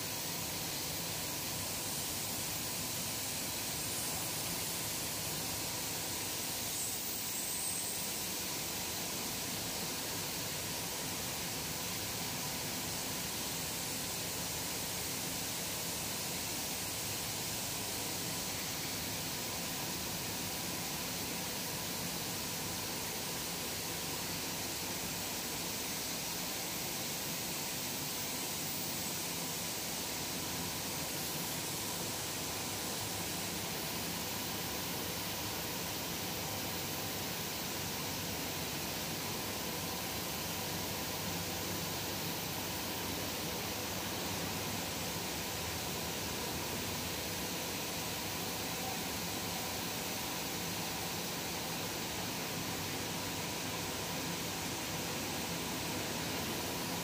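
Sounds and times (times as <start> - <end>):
factory machinery hissing: 0.0 - 57.0.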